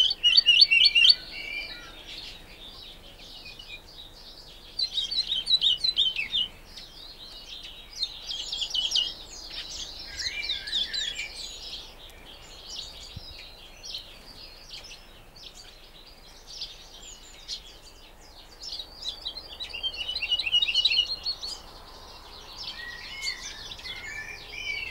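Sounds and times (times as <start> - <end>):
woodlark singing: 0.0 - 24.9.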